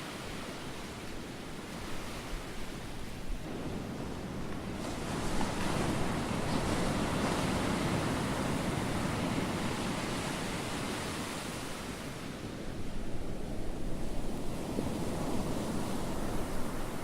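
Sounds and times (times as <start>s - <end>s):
rushing sea water: 0.0s - 17.0s
wind: 0.0s - 17.0s.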